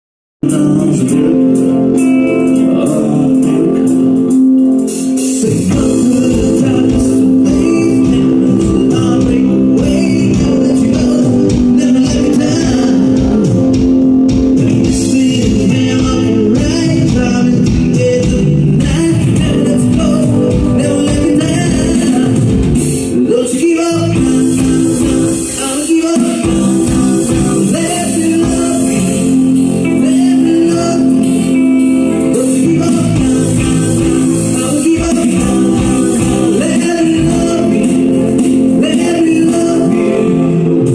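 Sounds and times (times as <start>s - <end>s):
bass guitar: 0.4s - 40.9s
electric guitar: 0.4s - 40.9s
keyboards: 0.4s - 40.9s
man singing: 0.4s - 40.9s.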